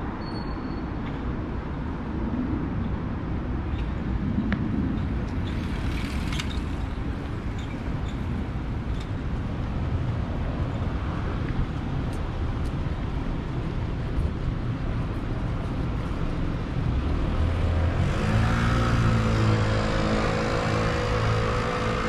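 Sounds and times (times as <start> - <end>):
rumble of road traffic: 0.0 - 22.0.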